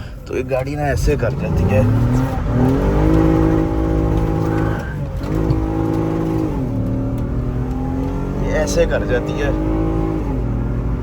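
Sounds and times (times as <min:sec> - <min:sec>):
car engine from inside car: 0:00.0 - 0:11.0.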